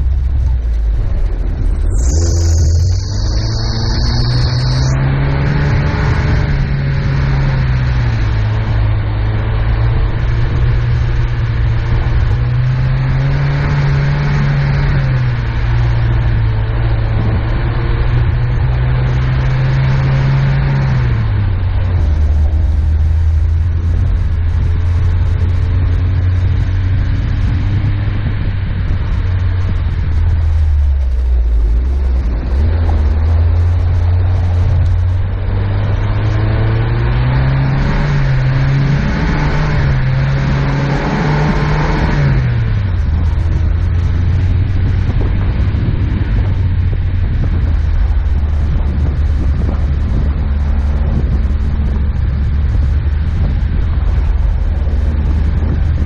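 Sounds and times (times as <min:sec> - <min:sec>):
off-roader engine running: 0:00.0 - 0:56.0.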